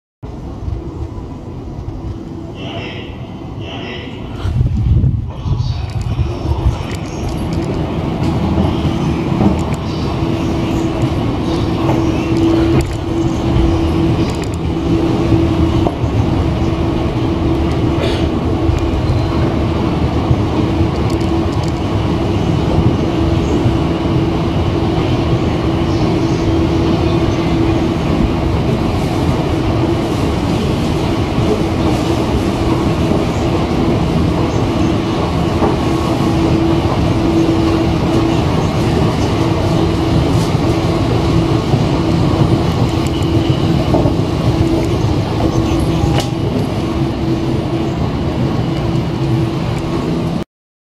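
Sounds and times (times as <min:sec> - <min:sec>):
escalator rumbling and humming: 0:00.3 - 0:50.4.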